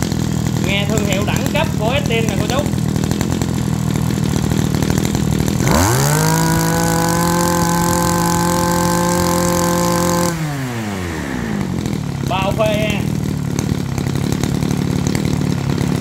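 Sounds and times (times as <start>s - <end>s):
grass trimmer engine revving: 0.0s - 16.0s.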